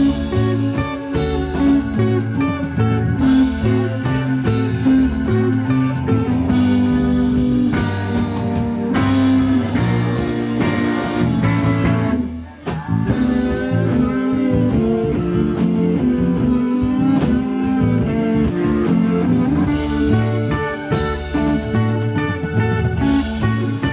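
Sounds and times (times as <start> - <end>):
bass guitar: 0.0 - 23.9
drum kit: 0.0 - 23.9
electric guitar: 0.0 - 23.9.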